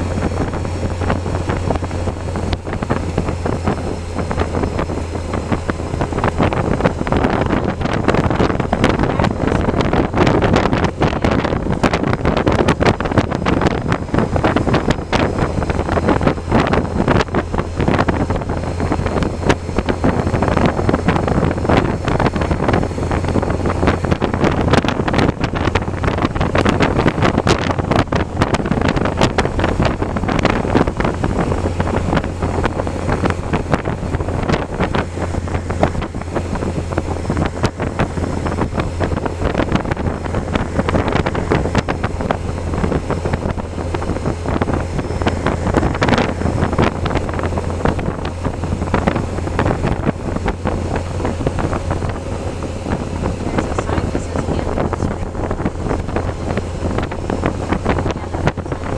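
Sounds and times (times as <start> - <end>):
steady low drone: 0.0 - 58.9
wind buffeting microphone: 0.0 - 58.9.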